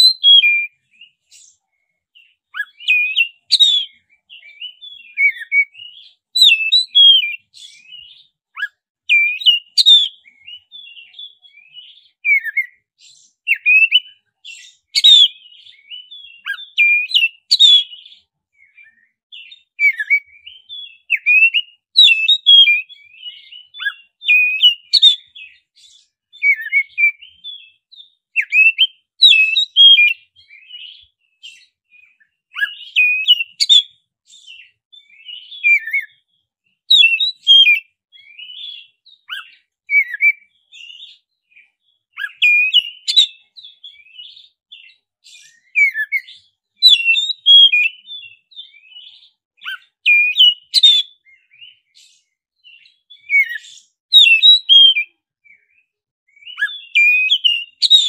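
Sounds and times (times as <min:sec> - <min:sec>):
magpie-robin singing: 0:00.0 - 0:58.0.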